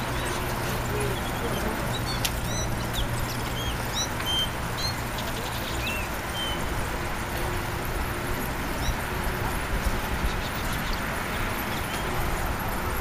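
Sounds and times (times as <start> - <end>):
bicycle road rumble: 0.0 - 13.0
wind: 0.0 - 13.0.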